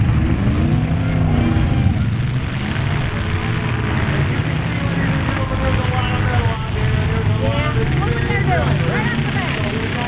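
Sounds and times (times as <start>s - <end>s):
car engines revving: 0.0s - 10.0s
low rumble: 0.0s - 10.0s.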